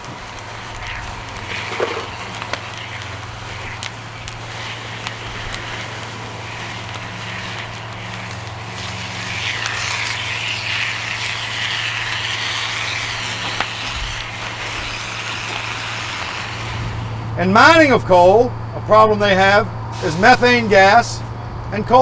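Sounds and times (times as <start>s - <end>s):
hissing rush of spray: 0.0s - 17.3s, 19.9s - 20.6s
low engine drone: 0.0s - 21.9s.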